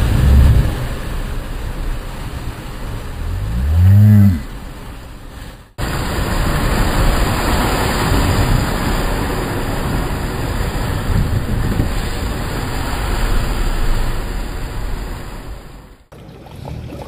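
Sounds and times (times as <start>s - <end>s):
vehicle engine rumble: 0.0s - 16.1s
mud and water spraying: 0.0s - 17.0s.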